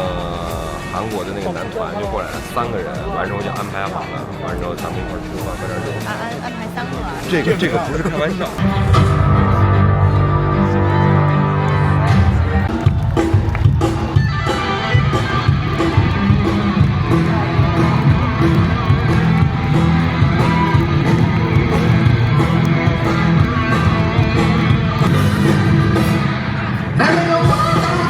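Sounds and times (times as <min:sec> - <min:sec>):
rock band music: 0:00.0 - 0:28.0.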